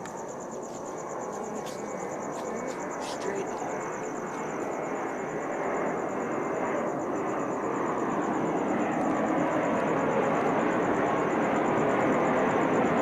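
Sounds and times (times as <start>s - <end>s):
crickets chirping: 0.0s - 13.0s
jet engine overhead: 0.0s - 13.0s.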